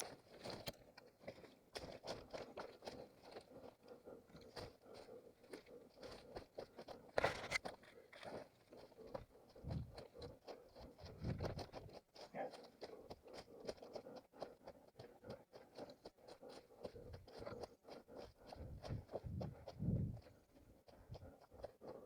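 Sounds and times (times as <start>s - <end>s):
footsteps crunching on rough ground: 0.0s - 22.0s.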